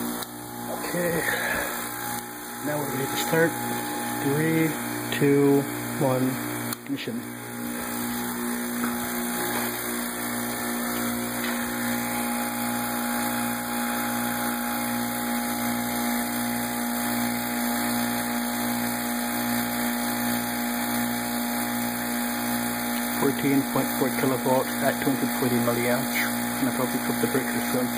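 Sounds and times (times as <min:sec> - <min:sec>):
vacuum pumps droning: 0:00.0 - 0:27.9.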